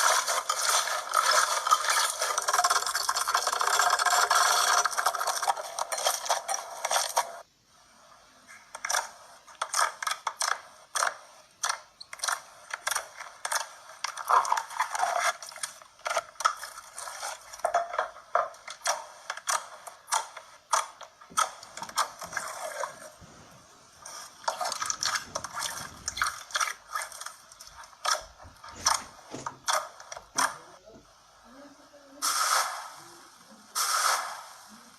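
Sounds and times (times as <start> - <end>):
slime squelching by hand: 0.0 - 7.4, 8.5 - 30.8.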